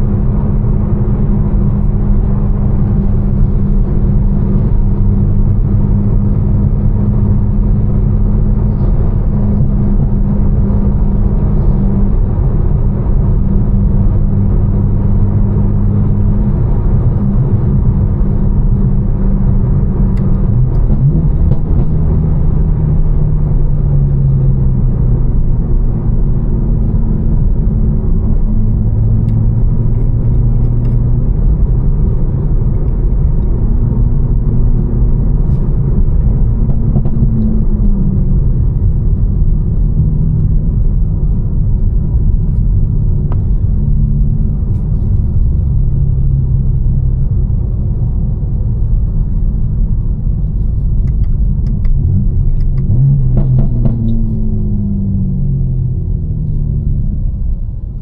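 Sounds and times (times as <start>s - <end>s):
car engine droning: 0.0s - 58.0s
road noise inside car: 0.0s - 58.0s.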